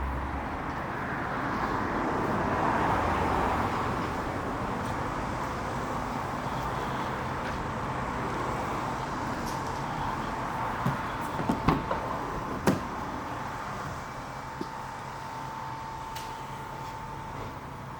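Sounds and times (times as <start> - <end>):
road traffic noise: 0.0 - 17.9.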